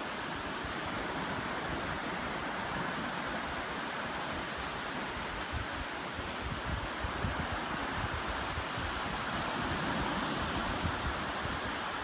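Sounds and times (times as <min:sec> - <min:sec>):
small waves washing up a beach: 0:00.0 - 0:12.0
wind buffeting microphone: 0:00.0 - 0:12.0.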